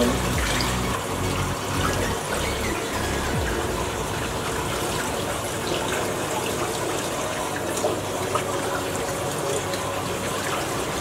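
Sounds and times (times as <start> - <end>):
running water in aquarium: 0.0 - 11.0.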